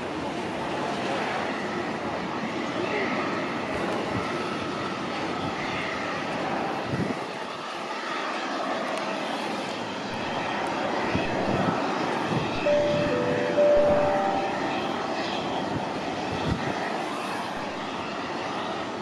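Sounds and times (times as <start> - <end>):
jet aircraft engine: 0.0 - 12.7, 14.9 - 19.0.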